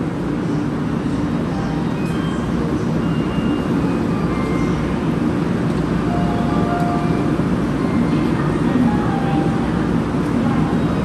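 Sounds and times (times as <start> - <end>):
standing train rumble and hum: 0.0 - 11.0.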